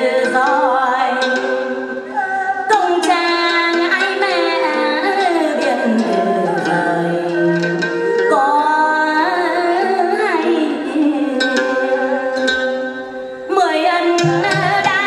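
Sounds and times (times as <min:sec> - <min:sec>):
woman singing folk song: 0:00.0 - 0:12.8, 0:13.5 - 0:15.0.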